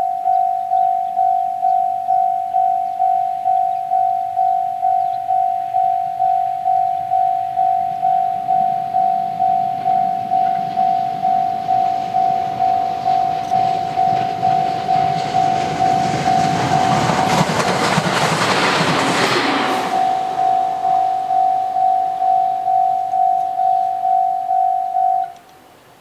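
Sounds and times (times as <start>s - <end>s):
level-crossing bell ringing: 0.0s - 17.6s, 19.8s - 25.3s
electric train passing: 0.0s - 25.4s.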